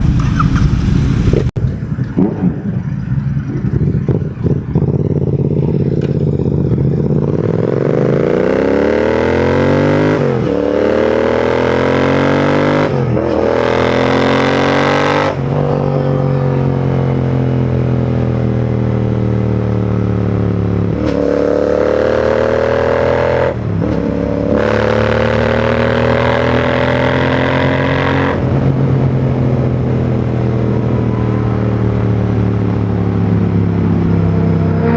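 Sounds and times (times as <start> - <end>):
motorcycle accelerating through gears: 0.0 - 34.9.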